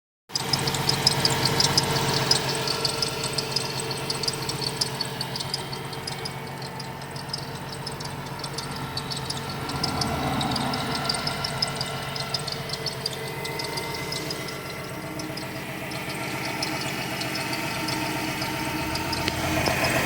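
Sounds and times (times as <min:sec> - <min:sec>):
van engine hum: 0:00.3 - 0:20.0
rapid high-pitched squeak: 0:00.4 - 0:20.0.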